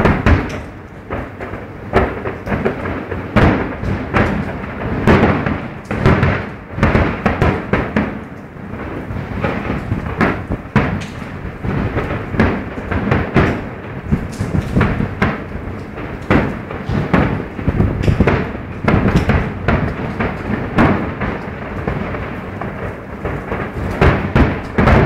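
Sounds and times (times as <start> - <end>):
continuous rumble: 0.0 - 25.0
fireworks booming: 0.0 - 25.0.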